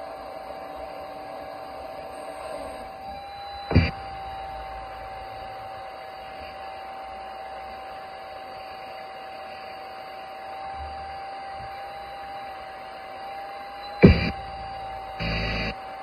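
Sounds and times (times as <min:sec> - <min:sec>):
high electric motor whine: 0:00.0 - 0:16.0.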